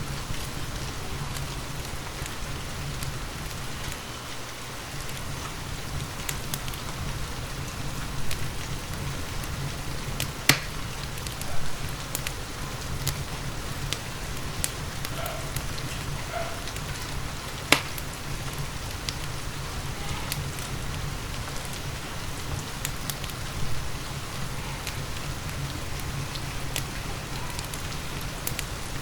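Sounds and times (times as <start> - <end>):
fire popping: 0.0 - 29.0
steady rain: 0.0 - 29.0
wood fire crackling: 0.0 - 29.0.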